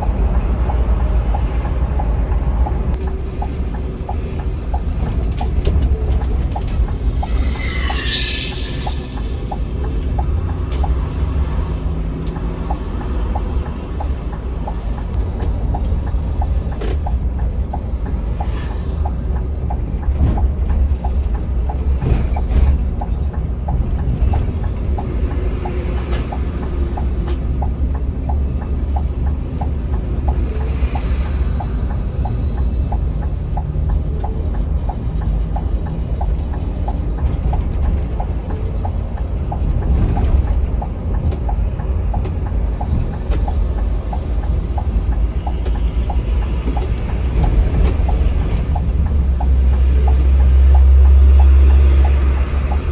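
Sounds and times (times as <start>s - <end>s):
bus engine and road rumble: 0.0s - 52.9s.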